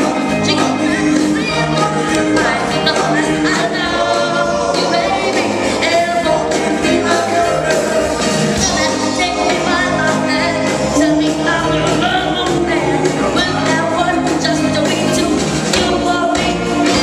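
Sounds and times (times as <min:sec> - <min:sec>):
backing band with bass and drums: 0:00.0 - 0:17.0
vocal group singing in harmony: 0:00.0 - 0:17.0.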